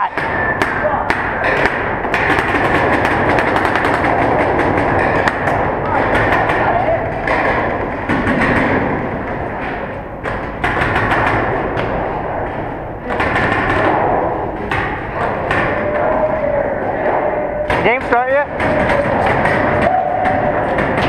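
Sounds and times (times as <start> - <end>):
steady background din: 0.0 - 21.0.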